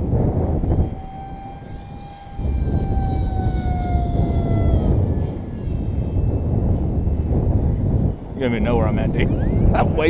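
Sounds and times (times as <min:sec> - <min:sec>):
model airplane motor whining: 0:00.0 - 0:10.0
wind buffeting microphone: 0:00.0 - 0:10.0.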